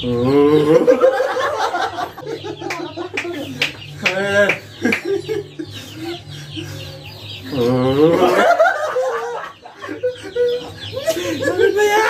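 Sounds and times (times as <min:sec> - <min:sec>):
people laughing and shrieking: 0:00.6 - 0:12.0.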